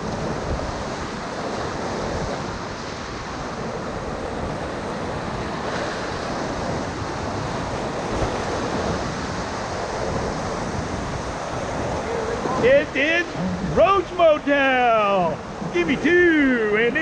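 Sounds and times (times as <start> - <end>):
whitewater rushing: 0.3 - 17.0.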